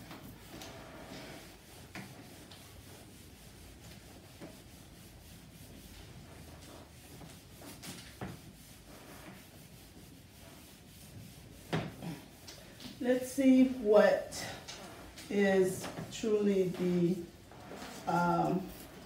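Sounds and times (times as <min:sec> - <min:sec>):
eraser rubbing on whiteboard: 0:00.0 - 0:19.0.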